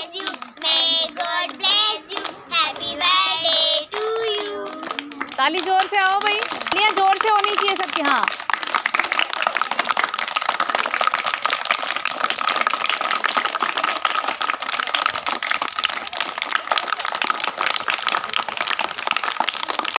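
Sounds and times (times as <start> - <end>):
children clapping hands: 0.0 - 20.0.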